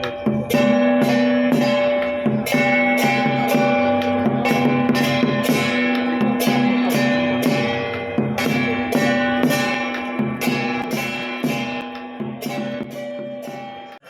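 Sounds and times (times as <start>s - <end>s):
held melody notes: 0.0s - 14.0s
sharp percussion beat: 0.0s - 14.0s.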